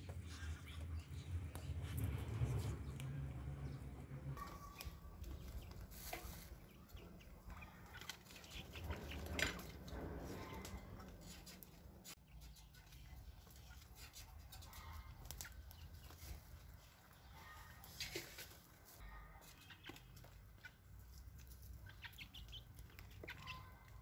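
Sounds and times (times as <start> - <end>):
chickens clucking: 4.4 - 24.0.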